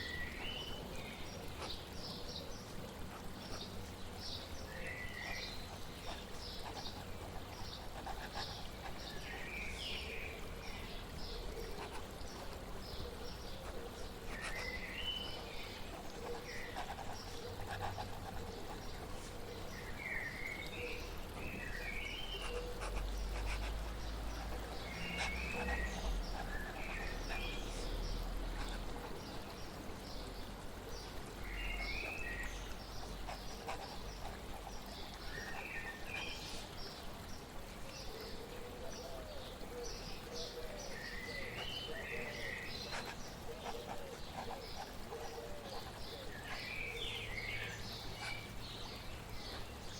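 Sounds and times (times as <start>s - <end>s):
flowing water hiss: 0.0s - 49.9s
songbirds chirping and warbling: 0.0s - 49.9s.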